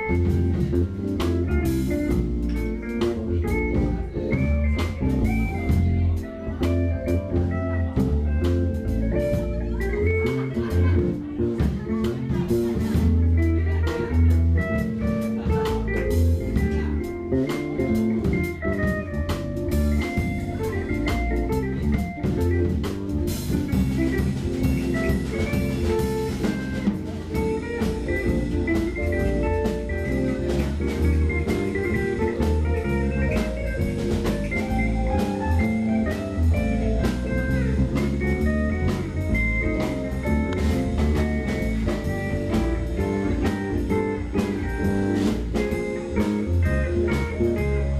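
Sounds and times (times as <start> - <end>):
jazz fusion band playing: 0.0 - 47.9.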